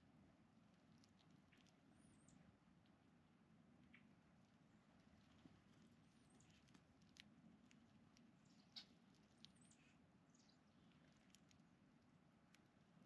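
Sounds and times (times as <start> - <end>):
low steady hum: 0.0 - 13.0
birds pecking at seed: 0.5 - 3.0, 3.8 - 13.0.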